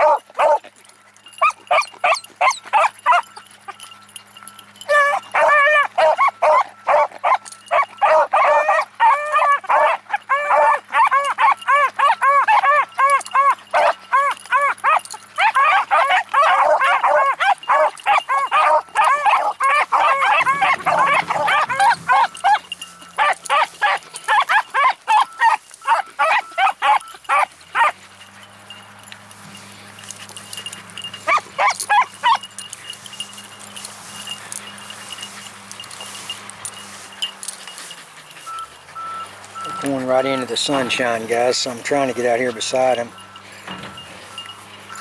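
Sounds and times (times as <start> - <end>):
beagles baying: 0.0 - 45.0.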